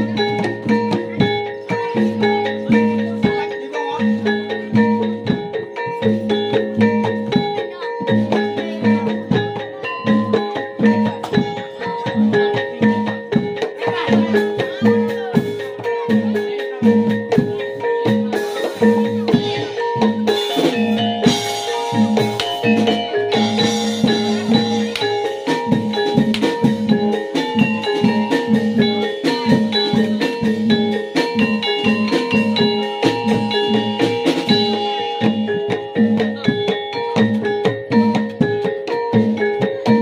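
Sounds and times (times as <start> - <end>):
drums: 0.0 - 40.0
gamelan music: 0.0 - 40.0
metal mallet instruments: 0.0 - 40.0.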